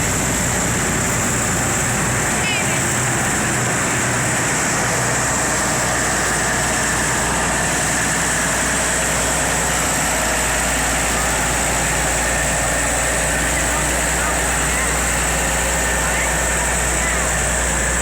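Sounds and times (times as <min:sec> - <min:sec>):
tractor engines running: 0:00.0 - 0:18.0.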